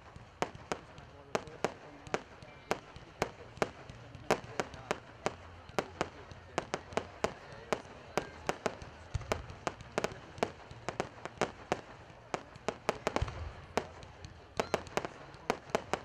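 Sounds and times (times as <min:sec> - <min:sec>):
deep fireworks thumps: 0:00.0 - 0:16.0
fireworks bangs: 0:00.0 - 0:16.0.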